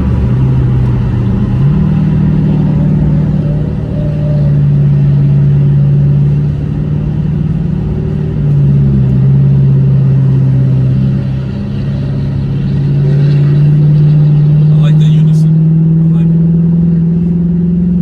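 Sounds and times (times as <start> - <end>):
car exhaust rumble: 0.0 - 18.0.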